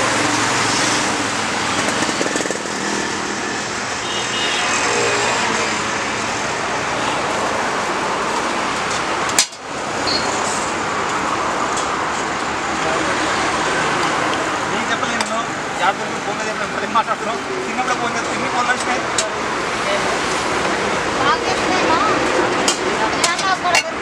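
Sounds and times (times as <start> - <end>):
roadside traffic: 0.0 - 24.0.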